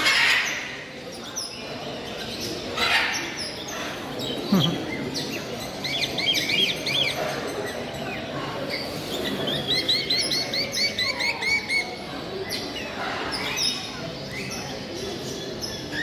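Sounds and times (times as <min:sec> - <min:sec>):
caged birds chirping: 0:00.0 - 0:16.0
hall background noise: 0:00.8 - 0:15.9.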